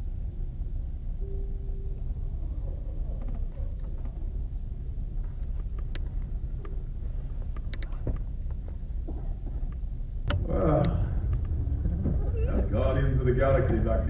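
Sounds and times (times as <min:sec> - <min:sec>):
low auditorium rumble: 0:00.0 - 0:14.0.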